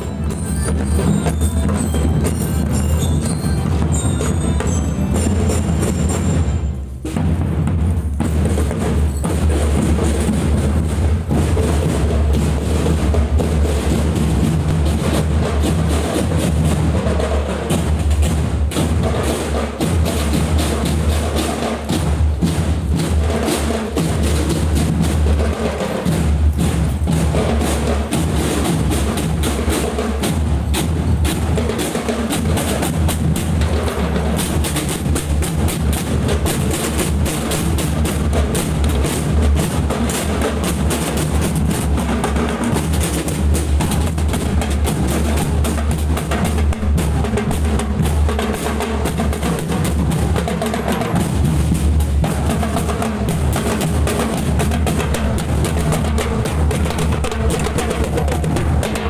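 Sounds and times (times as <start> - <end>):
snare drums rapid strokes: 0.0 - 59.0.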